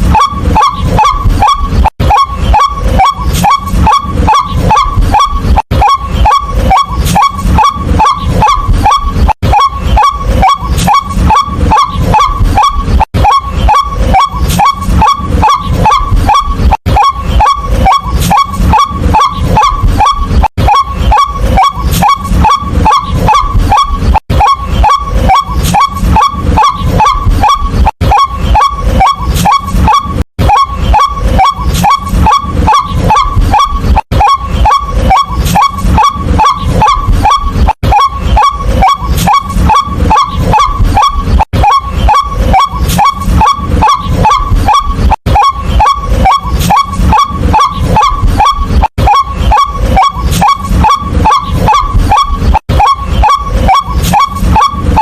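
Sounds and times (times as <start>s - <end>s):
waterhen harsh calls: 0.0s - 55.0s.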